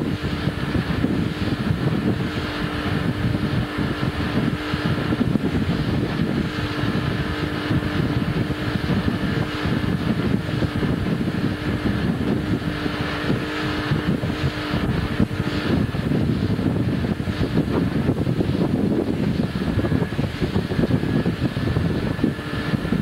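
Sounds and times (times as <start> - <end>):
motorboat engine running: 0.0 - 23.0
wind buffeting microphone: 0.0 - 23.0.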